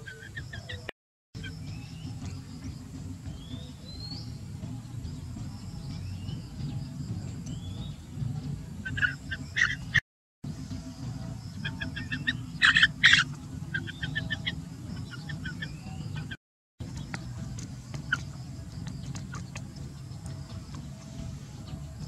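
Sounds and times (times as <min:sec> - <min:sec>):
bird chirping: 0:00.0 - 0:08.2, 0:08.8 - 0:10.0, 0:11.4 - 0:22.0
steady low rumble: 0:01.4 - 0:22.0.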